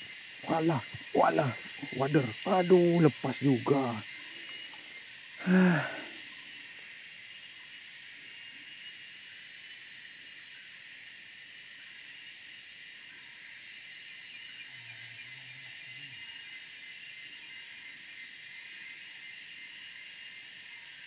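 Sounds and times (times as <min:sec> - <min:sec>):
night insects chorus: 0:00.0 - 0:21.0.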